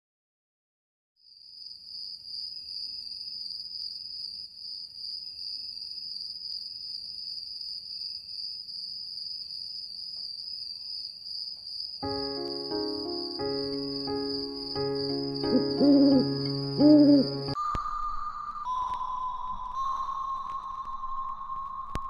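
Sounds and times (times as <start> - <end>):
high-pitched insect trill: 2.0 - 22.0.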